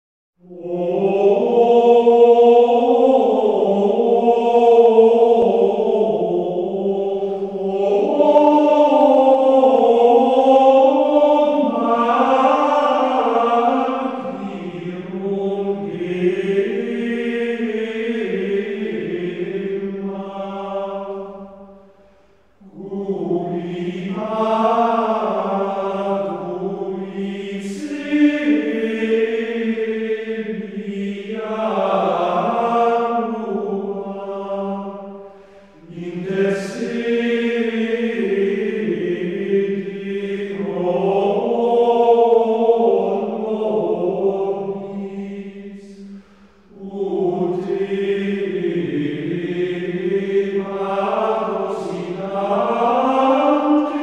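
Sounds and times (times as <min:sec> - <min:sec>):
chanted singing: 0:00.4 - 0:54.0.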